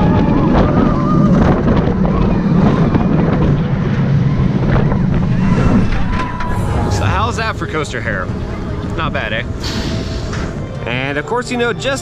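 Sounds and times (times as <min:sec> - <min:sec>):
wind buffeting microphone: 0:00.0 - 0:10.9
roller coaster train rumbling: 0:00.0 - 0:12.0.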